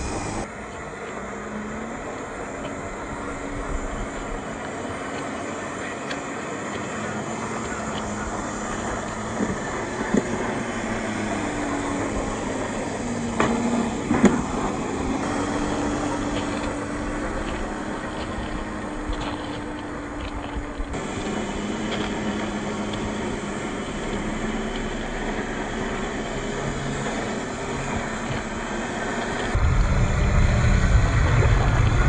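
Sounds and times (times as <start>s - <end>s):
tyres crunching on gravel: 0.0s - 29.6s
electric motor and gear whine: 0.0s - 32.0s.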